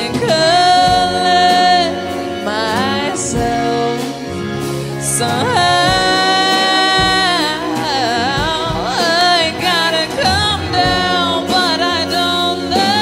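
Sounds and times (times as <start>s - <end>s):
live rock band playing: 0.0s - 13.0s
woman singing: 0.0s - 13.0s.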